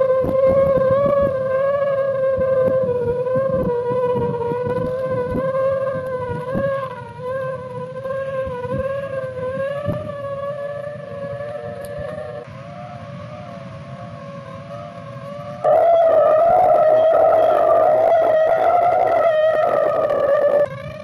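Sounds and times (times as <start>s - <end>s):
kite line humming in wind: 0.0s - 21.0s
wind rumble on microphone: 0.0s - 21.0s.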